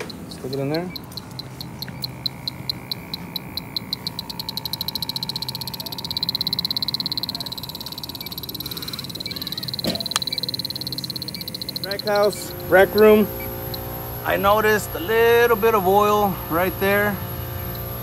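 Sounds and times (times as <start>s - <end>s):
leak detector ticking and beeping: 0.0s - 18.0s.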